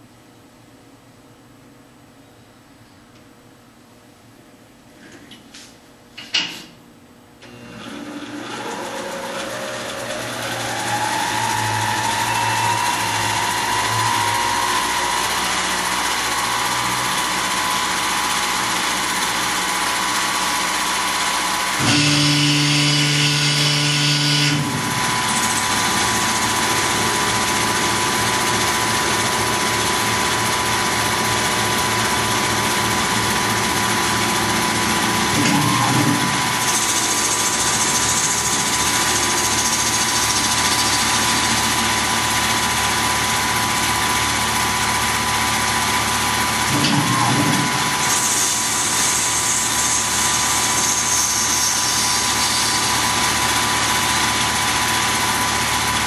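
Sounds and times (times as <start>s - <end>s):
milling machine whine: 7.4s - 56.0s.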